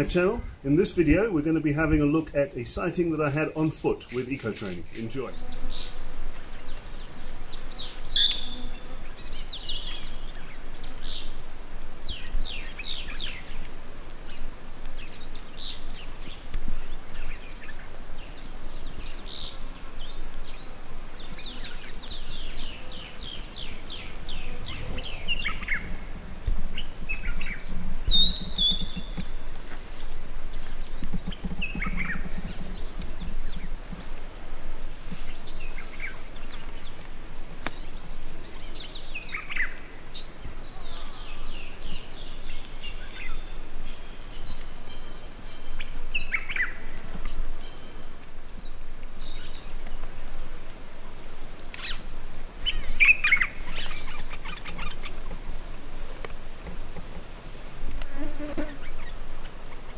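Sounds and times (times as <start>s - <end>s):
outdoor background hiss: 0.0s - 59.9s
wild birds chirping and trilling: 0.0s - 59.9s.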